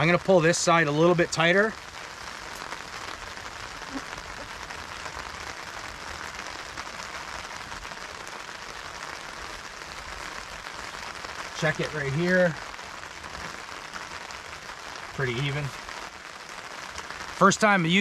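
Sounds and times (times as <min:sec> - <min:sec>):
rain pattering on plastic tarp: 0:00.0 - 0:18.0.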